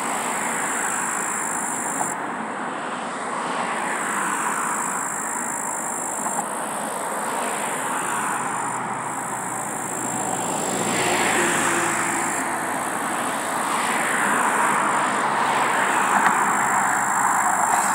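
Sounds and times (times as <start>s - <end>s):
road traffic passing: 0.0s - 17.9s.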